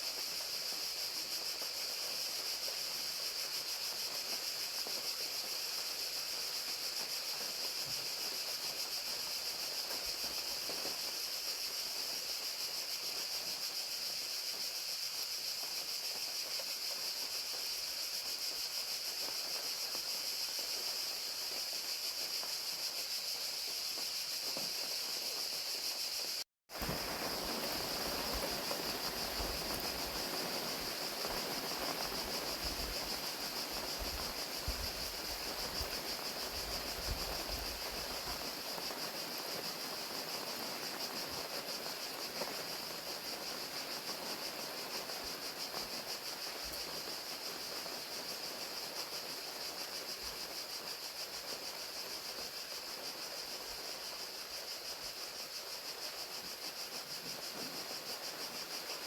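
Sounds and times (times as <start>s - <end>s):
crickets trilling: 0.0s - 59.0s
hiss of falling rain: 0.0s - 59.0s.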